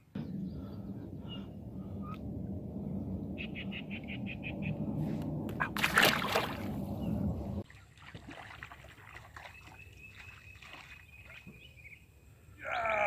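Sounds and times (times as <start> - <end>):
water splashing and sloshing: 1.0 - 11.8.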